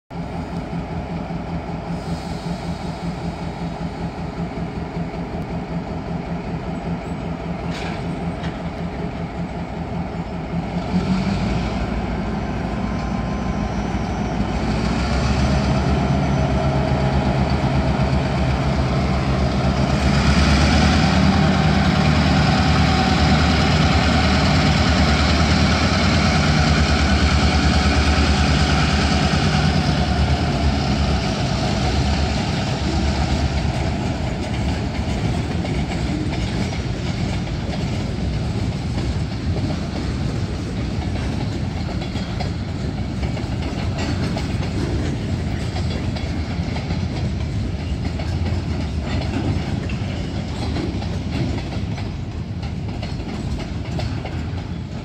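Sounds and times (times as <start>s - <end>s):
diesel locomotive engine drone: 0.1s - 55.0s.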